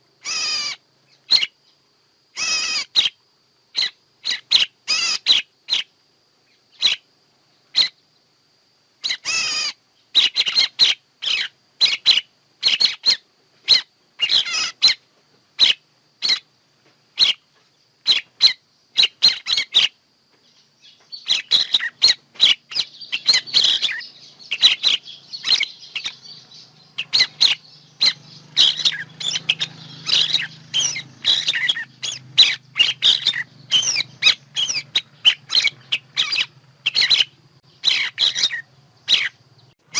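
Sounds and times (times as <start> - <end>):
faint background hiss: 0.0 - 37.9
songbird chirps: 0.0 - 39.9.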